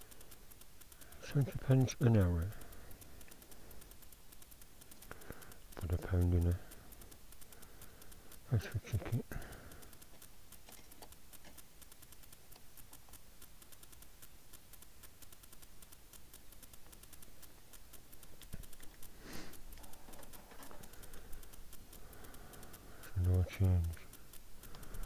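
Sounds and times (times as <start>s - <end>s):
light rain pattering: 0.0s - 25.0s.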